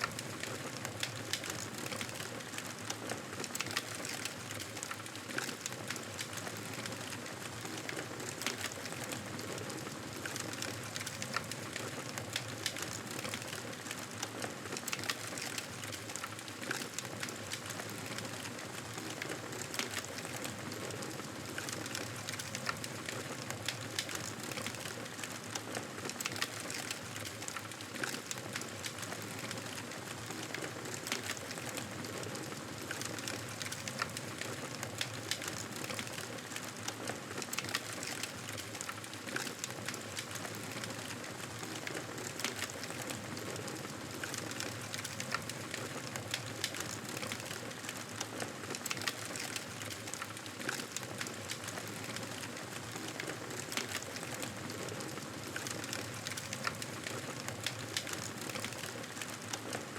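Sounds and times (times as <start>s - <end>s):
fireplace crackling: 10.1s - 59.7s.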